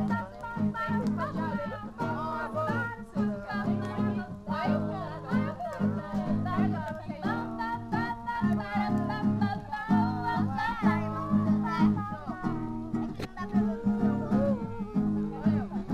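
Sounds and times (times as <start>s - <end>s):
person singing: 0.0s - 15.9s
strummed acoustic guitar: 0.0s - 15.9s.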